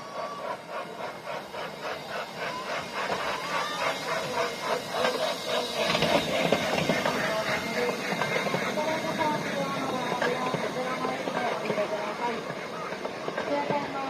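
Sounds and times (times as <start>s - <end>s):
train wheels clicking over rail joints: 0.1s - 14.0s.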